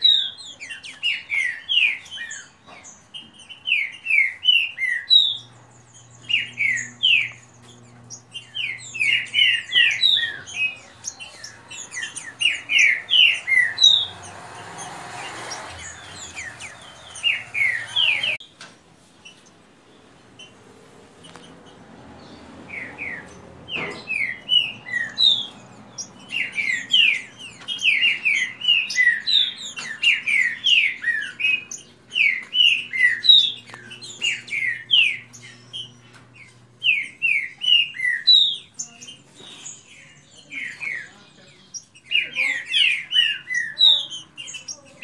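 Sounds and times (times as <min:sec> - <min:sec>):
birds singing whistled notes: 0:00.0 - 0:18.6, 0:21.2 - 0:45.0.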